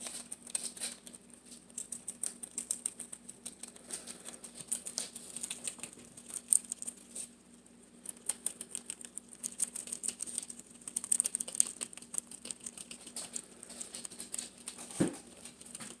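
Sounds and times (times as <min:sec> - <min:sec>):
guinea pigs chewing leaves: 0:00.0 - 0:16.0.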